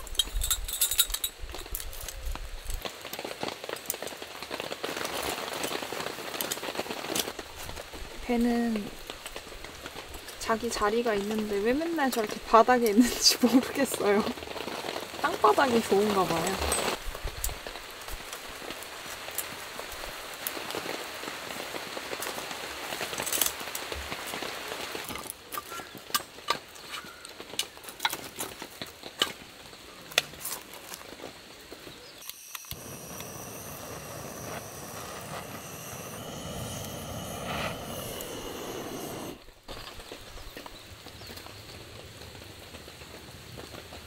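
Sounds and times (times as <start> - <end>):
wood fire crackling: 0.0 - 44.0
rain pattering: 1.3 - 44.0.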